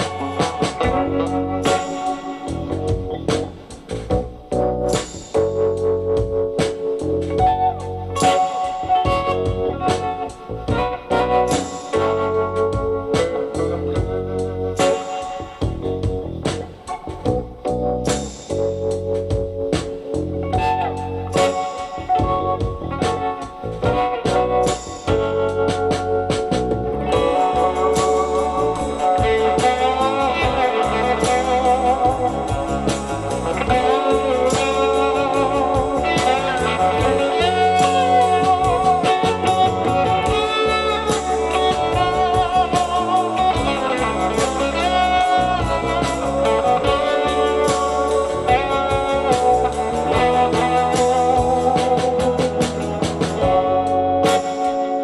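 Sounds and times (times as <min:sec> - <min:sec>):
bluesy guitar music: 0:00.0 - 0:55.0.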